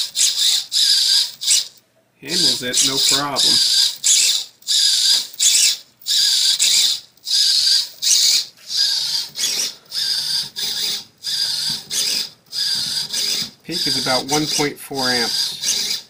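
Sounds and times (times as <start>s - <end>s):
servo whining through gears: 2.3s - 16.0s.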